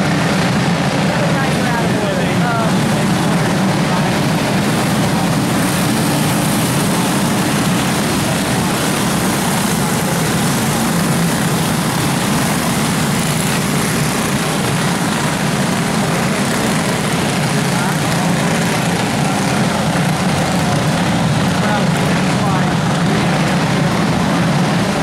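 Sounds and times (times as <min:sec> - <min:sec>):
go-kart engines droning: 0:00.0 - 0:25.0.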